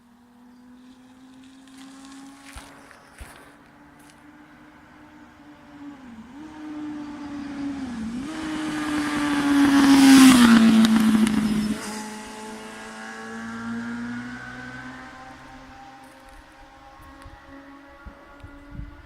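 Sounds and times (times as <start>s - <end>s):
motorcycle engine passing by: 0.4s - 19.0s.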